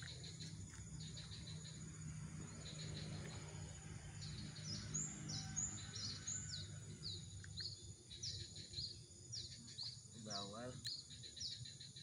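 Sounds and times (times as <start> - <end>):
low outdoor hum: 0.0 - 12.0
small bird chirping: 0.0 - 12.0.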